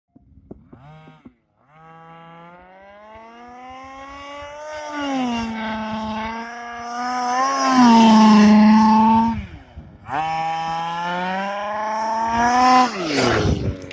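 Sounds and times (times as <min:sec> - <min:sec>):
small gas engine at high revs: 0:00.4 - 0:13.9.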